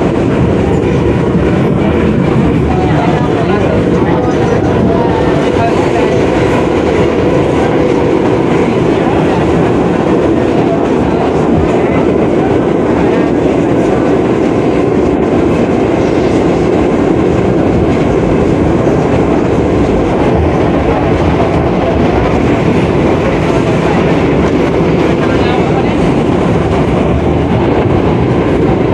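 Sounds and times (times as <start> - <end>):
subway train running on rails: 0.0 - 28.9.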